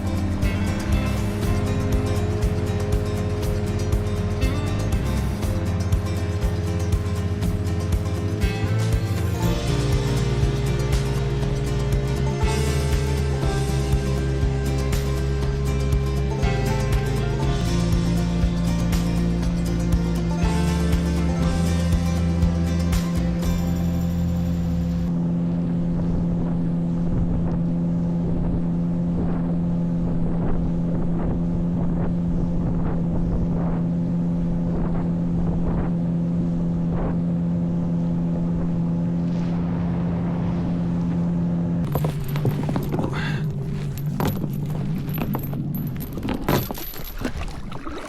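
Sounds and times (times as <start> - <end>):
motor boat engine humming: 0.0 - 48.0.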